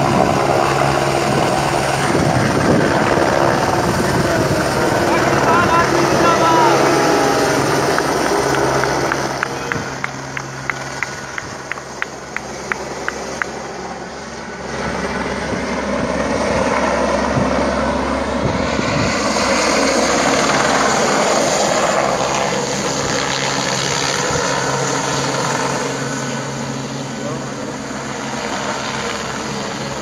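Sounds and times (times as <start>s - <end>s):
helicopter rotor and engine: 0.0s - 30.0s.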